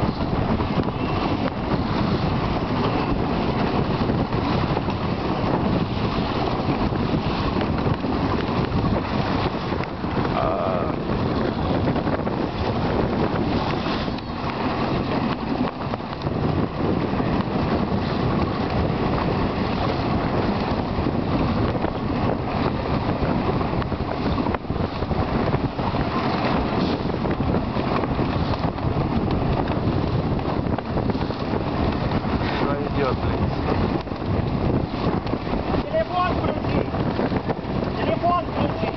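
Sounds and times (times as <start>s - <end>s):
water rushing around motor boat: 0.0s - 38.9s
wind buffeting microphone: 0.0s - 38.9s.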